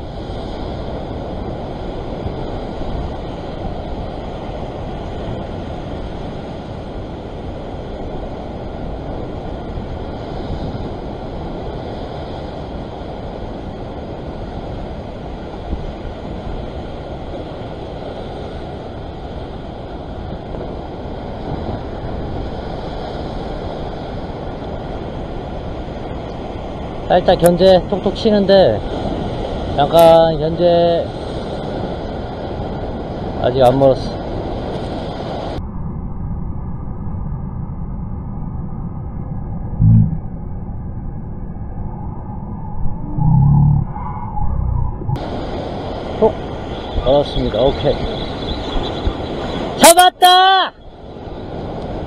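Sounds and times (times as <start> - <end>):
surf washing over rocks: 0.0 - 35.6, 45.2 - 52.0
wind on microphone: 0.0 - 49.8.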